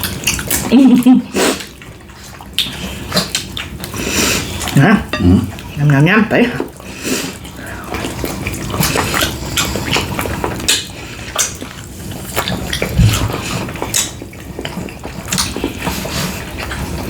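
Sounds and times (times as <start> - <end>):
wet chewing and mouth smacks: 0.0 - 5.8, 6.6 - 17.0.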